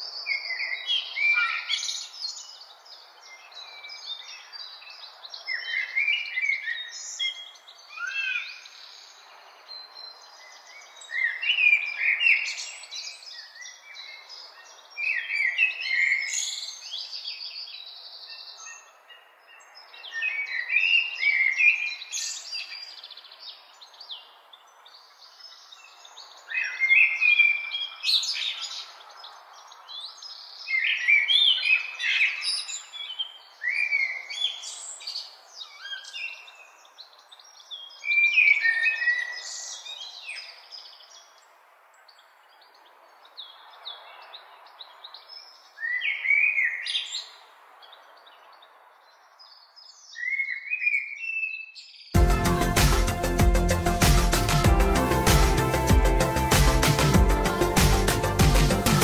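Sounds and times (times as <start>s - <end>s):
faint background noise: 0.0s - 52.2s
songbirds singing and calling: 0.0s - 59.0s.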